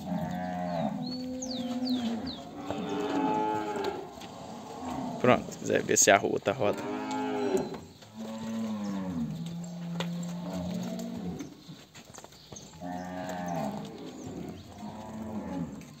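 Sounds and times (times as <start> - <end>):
cattle mooing: 0.0 - 5.9, 6.6 - 11.5, 12.8 - 16.0.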